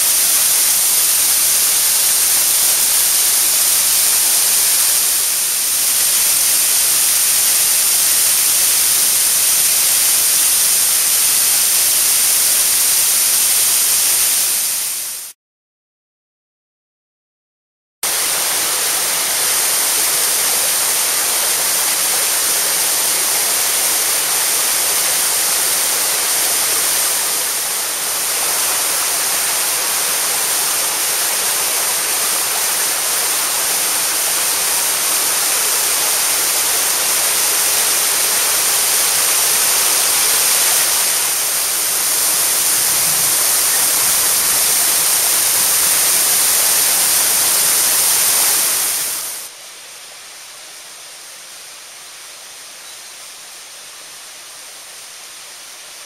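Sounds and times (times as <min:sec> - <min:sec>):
waterfall rushing: 0:00.0 - 0:15.4, 0:18.0 - 0:49.6.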